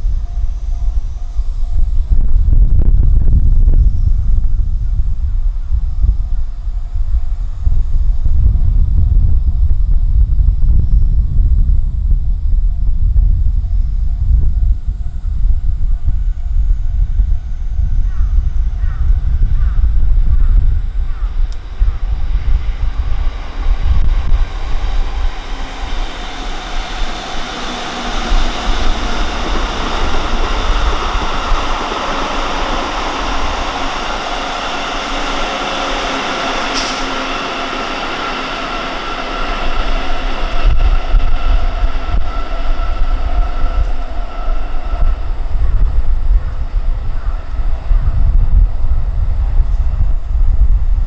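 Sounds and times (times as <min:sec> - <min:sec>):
train rolling on rails: 0:00.0 - 0:51.0
wind buffeting microphone: 0:00.0 - 0:51.0.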